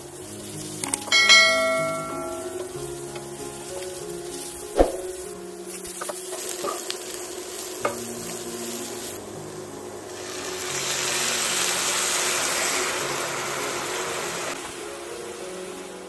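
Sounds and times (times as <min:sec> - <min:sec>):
vegetables sizzling in a pan: 0:00.0 - 0:16.0
wine hissing in a hot pan: 0:00.0 - 0:16.0.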